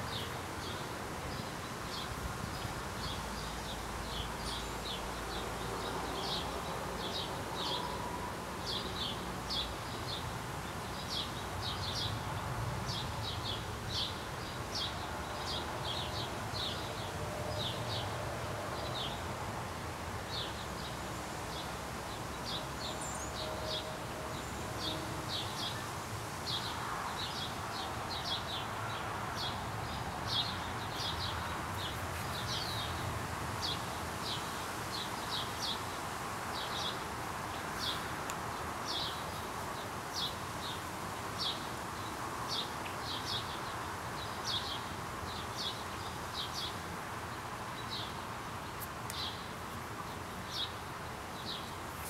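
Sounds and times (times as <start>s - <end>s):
outdoor background hiss: 0.0s - 52.0s.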